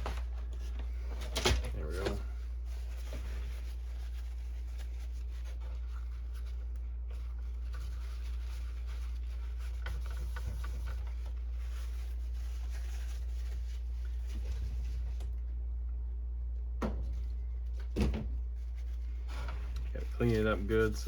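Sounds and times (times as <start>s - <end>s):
paper towel rubbing on plastic: 0.0s - 15.3s, 18.4s - 21.0s
steady low hum: 0.0s - 21.0s.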